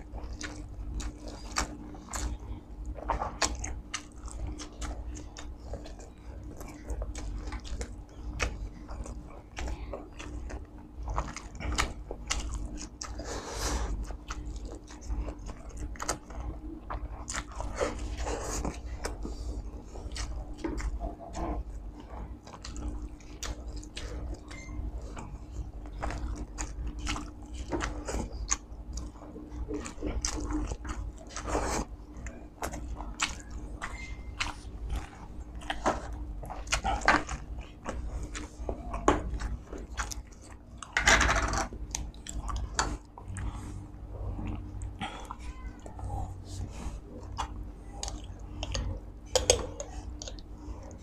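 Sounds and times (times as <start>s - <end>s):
close chewing: 0.0s - 41.0s, 41.6s - 51.0s
faint steady hum: 0.0s - 51.0s.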